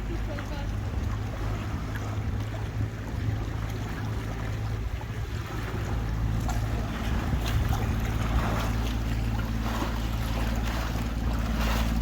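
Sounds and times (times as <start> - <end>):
boat engine humming: 0.0 - 12.0
water splashing along hull: 0.0 - 12.0
wind on microphone: 0.7 - 12.0.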